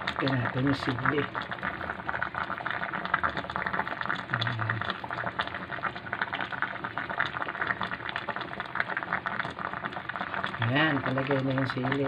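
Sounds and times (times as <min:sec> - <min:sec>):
stew bubbling in a pot: 0:00.0 - 0:12.0.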